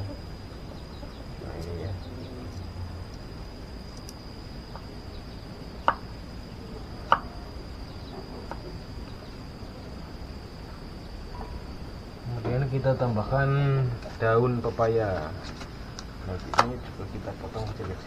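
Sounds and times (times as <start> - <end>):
steady high whine: 0.0 - 18.0.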